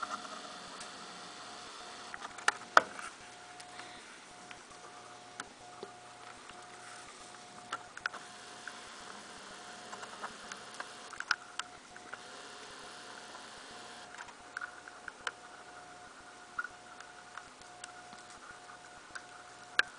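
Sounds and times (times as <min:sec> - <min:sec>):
faint steady tone: 0:00.0 - 0:19.9
low hiss: 0:00.0 - 0:19.9.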